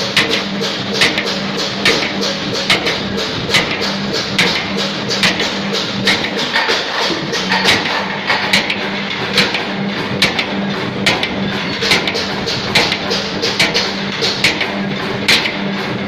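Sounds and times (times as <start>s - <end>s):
steady machine hum: 0.0s - 16.0s
sharp punch strikes: 0.2s - 15.6s.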